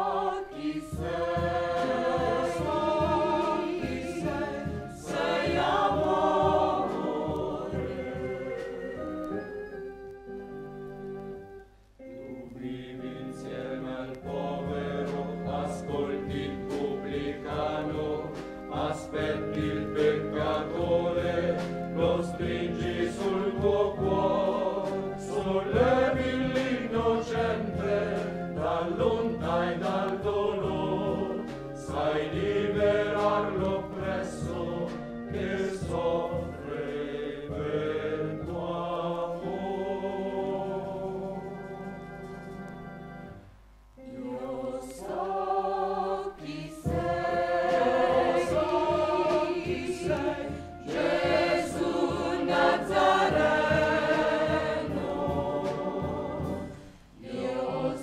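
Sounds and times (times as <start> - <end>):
choir singing a hymn: 0.0 - 43.4, 44.0 - 58.0
sustained musical backing: 0.0 - 58.0.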